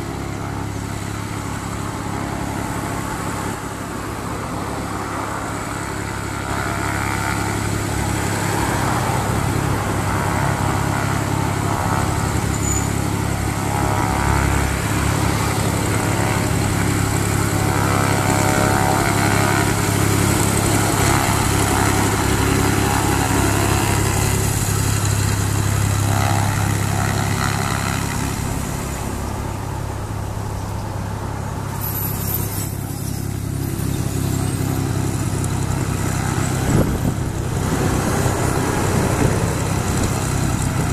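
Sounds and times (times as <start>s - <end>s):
propeller plane engine taxiing: 0.0s - 40.9s.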